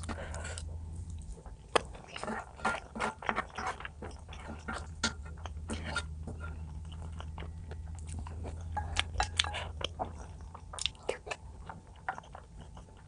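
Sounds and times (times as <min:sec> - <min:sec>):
low hum: 0:00.0 - 0:11.7
person chewing and crunching: 0:00.0 - 0:13.0.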